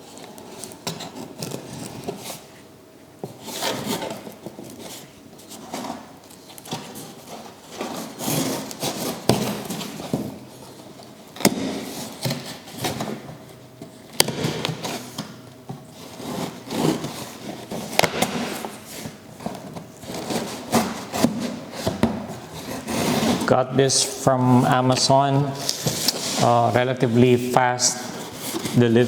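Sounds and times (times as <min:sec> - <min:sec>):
cardboard rustling and scraping: 0:00.0 - 0:29.0.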